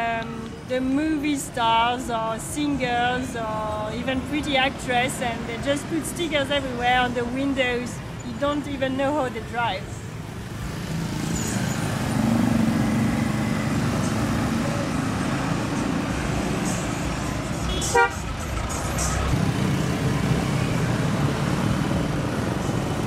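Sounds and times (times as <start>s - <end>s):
vehicles passing with engine rumble: 0.0s - 23.0s.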